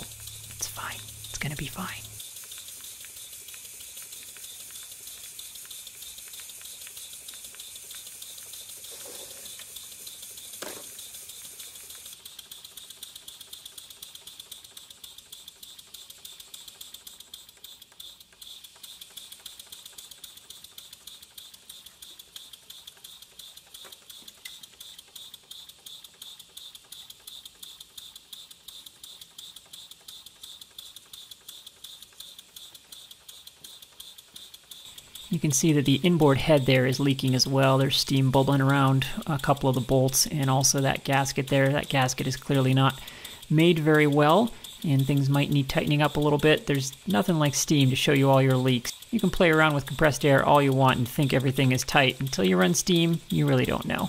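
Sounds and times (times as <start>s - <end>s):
steam hissing: 0.0s - 17.8s, 18.5s - 54.0s
steam engine ticking beat: 0.0s - 54.0s.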